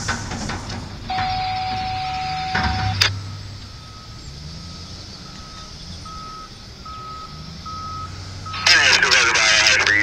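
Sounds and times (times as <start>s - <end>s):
low engine rumble: 0.0s - 10.0s
vehicle backup alarm beeping: 1.1s - 10.0s.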